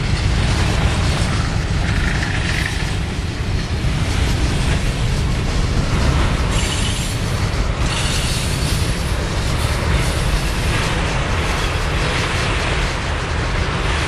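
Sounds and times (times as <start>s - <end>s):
diesel locomotive drone: 0.0s - 14.0s
freight train rumbling on track: 0.0s - 14.0s.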